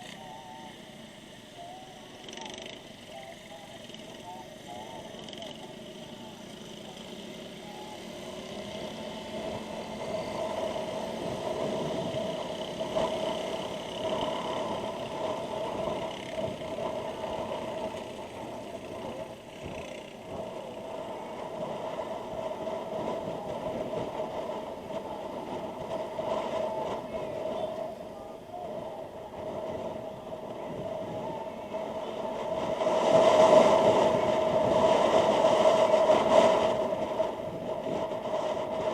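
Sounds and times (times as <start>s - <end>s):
motorcycle engine hum: 0.0s - 38.9s
road noise: 0.0s - 38.9s.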